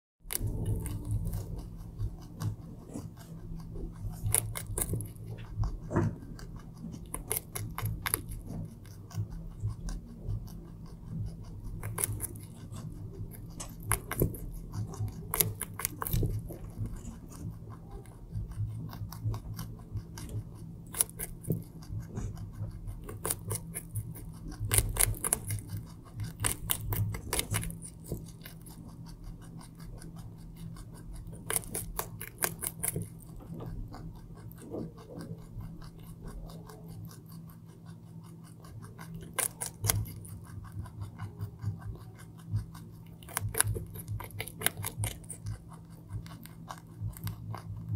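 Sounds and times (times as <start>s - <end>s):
faint low hum: 0.2s - 47.9s
rabbit chewing carrot: 0.2s - 47.9s.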